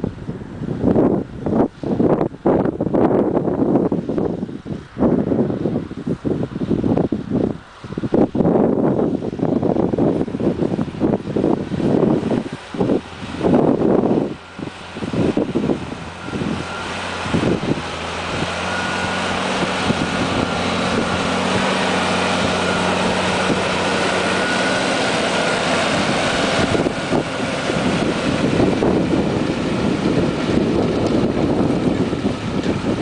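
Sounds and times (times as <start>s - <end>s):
tractor engine running under load: 0.0s - 33.0s
wind buffeting microphone: 0.0s - 33.0s.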